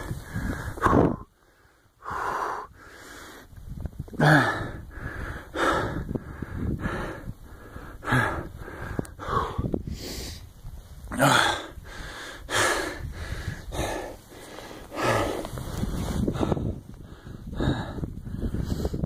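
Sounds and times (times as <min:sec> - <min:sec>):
man breathing heavily: 0:00.0 - 0:19.0.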